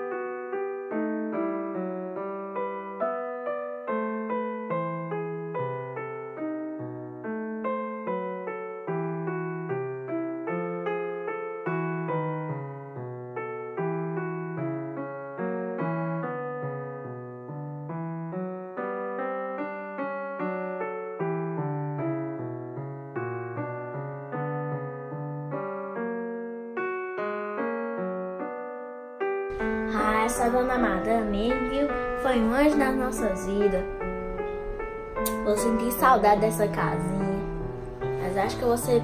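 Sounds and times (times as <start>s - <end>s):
slow gentle piano melody: 0.0s - 39.0s.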